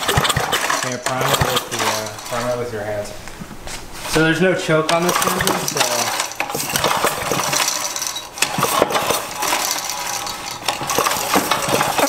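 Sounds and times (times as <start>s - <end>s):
engine cranking: 0.0s - 2.7s, 4.9s - 12.0s.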